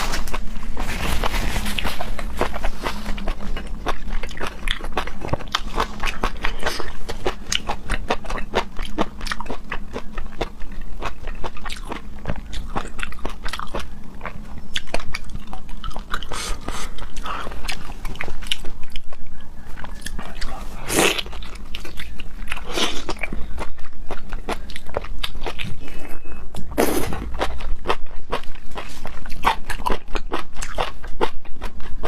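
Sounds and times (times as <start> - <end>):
person chewing wetly: 1.6 - 32.0.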